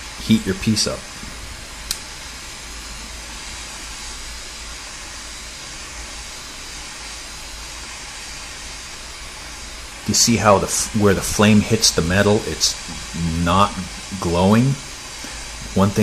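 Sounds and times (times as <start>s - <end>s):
gas torch hissing: 0.0s - 16.0s.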